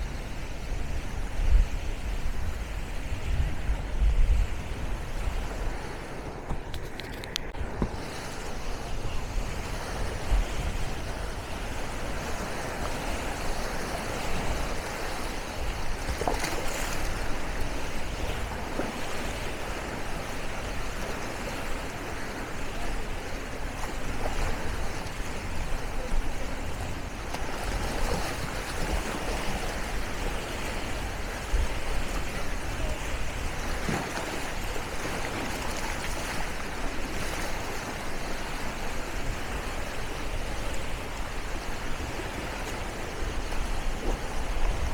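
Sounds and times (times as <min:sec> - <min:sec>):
small waves washing on shore: 0:00.0 - 0:44.9
wind rumble on microphone: 0:00.0 - 0:44.9.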